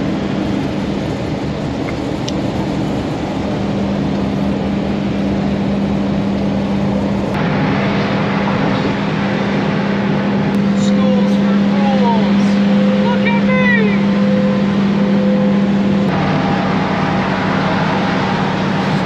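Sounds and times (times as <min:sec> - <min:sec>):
road and wind noise: 0:00.0 - 0:19.0
vehicle engine drone: 0:00.0 - 0:19.0.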